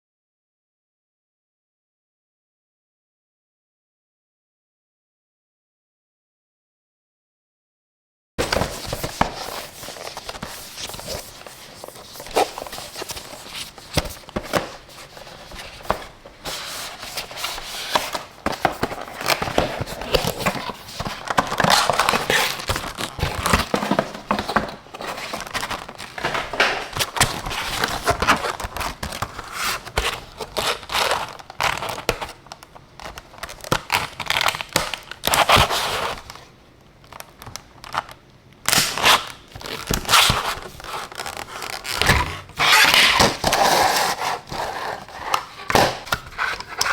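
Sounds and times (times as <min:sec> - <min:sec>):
plastic packaging crinkling: 0:08.4 - 0:46.9.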